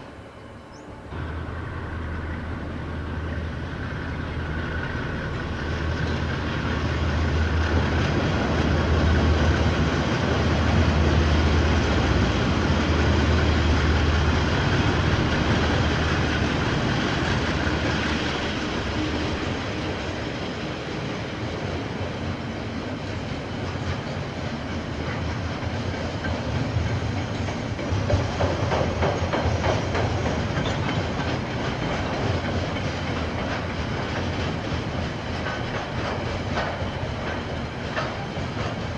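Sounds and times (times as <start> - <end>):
diesel locomotive engine drone: 0.0 - 38.9
train wheels clattering on rails: 0.7 - 38.9.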